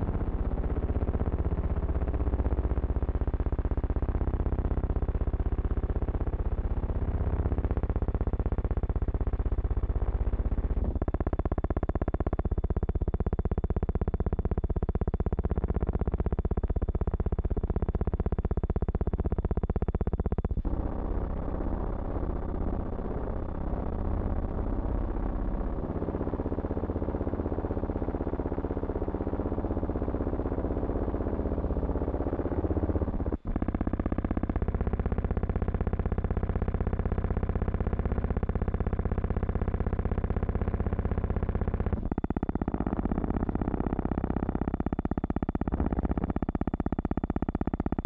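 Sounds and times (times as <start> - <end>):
distorted buzzing drone: 0.0 - 48.0.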